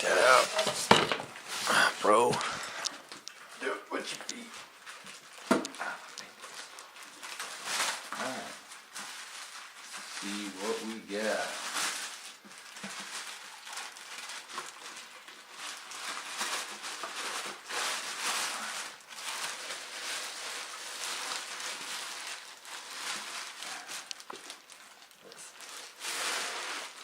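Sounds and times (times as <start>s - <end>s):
packing material rustling: 0.0s - 27.0s.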